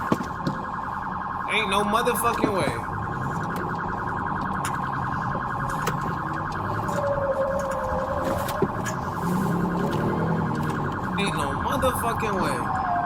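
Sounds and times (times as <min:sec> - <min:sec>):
electronic siren warbling: 0:00.4 - 0:13.0.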